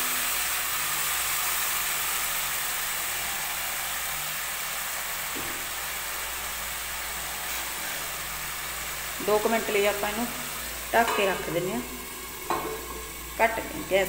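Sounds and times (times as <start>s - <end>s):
sauce sizzling and steaming: 0.0s - 14.0s.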